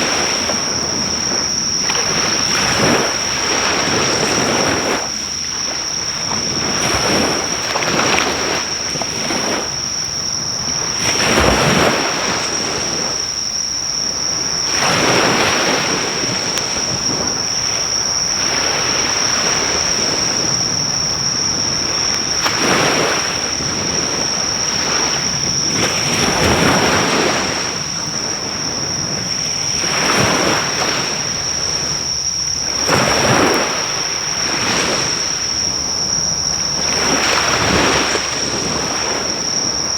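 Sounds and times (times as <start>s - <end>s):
insects chirring: 0.0s - 39.9s
waves breaking on a beach: 0.0s - 39.9s.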